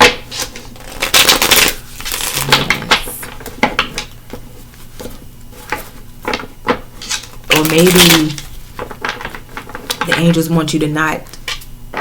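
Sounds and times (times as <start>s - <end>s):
cards being shuffled: 0.0s - 10.3s.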